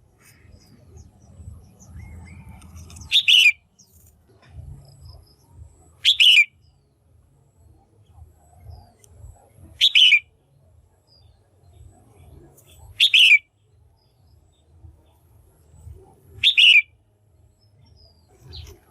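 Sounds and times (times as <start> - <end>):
faint low rumble: 0.0 - 18.9.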